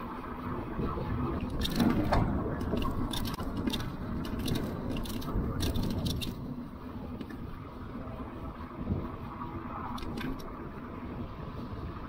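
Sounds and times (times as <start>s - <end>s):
low rolling rumble: 0.0s - 12.0s.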